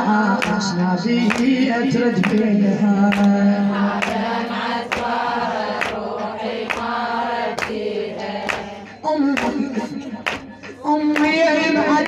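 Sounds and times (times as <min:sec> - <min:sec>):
rhythmic chest slaps: 0:00.0 - 0:12.0
voices chanting together: 0:00.0 - 0:12.0.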